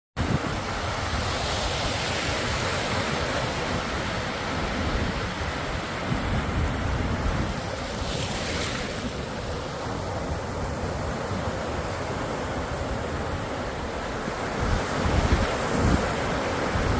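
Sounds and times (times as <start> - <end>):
wind rumbling on microphone: 0.2 - 16.9.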